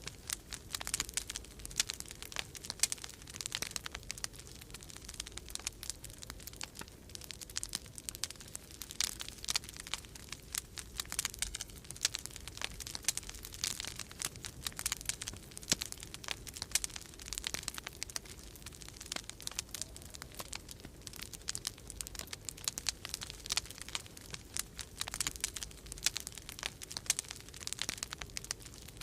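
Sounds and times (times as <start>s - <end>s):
fire pops and snaps: 0.0s - 29.0s
low fire rumble: 0.0s - 29.0s.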